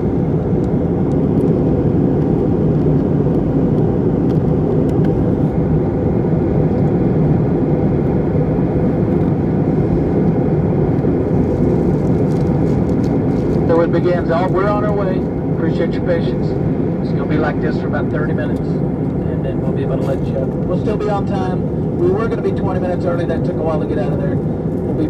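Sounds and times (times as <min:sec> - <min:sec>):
airliner cabin rumble: 0:00.0 - 0:25.0
faint steady hum: 0:00.0 - 0:25.0.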